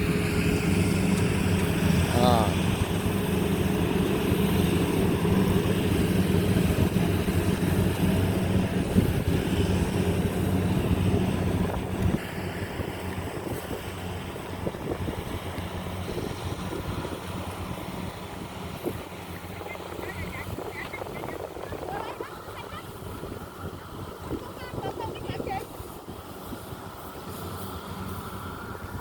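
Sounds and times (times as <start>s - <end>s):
combine harvester engine droning: 0.0s - 29.0s.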